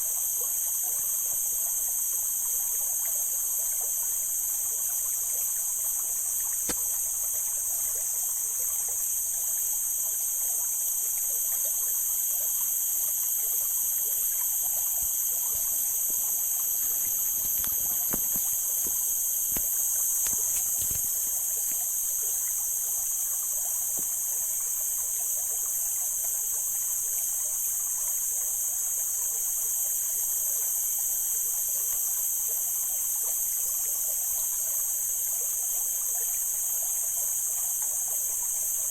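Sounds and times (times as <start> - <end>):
high-pitched hiss: 0.0 - 38.9
stream water flowing: 0.0 - 38.9.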